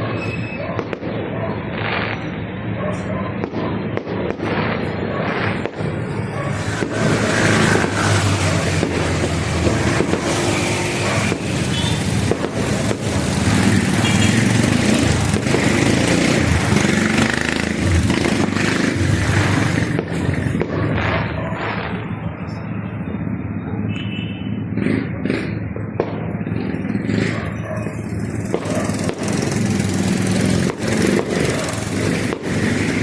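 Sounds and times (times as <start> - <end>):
fireworks bangs: 0.0 - 33.0
fireworks rumble: 0.0 - 33.0.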